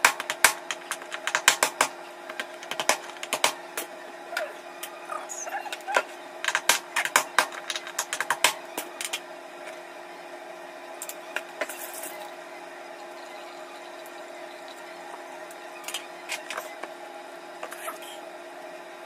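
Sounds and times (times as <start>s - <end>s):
low kitchen hum: 0.0s - 19.0s.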